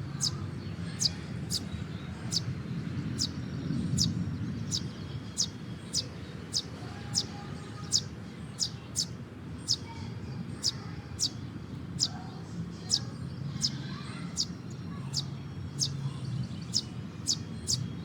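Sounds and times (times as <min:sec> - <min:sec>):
small bird chirping: 0:00.2 - 0:10.0, 0:10.6 - 0:11.4, 0:12.8 - 0:17.9.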